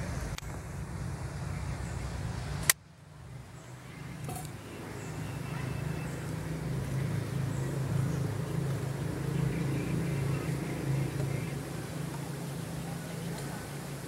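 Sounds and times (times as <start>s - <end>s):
low motor rumble: 0.0s - 14.0s.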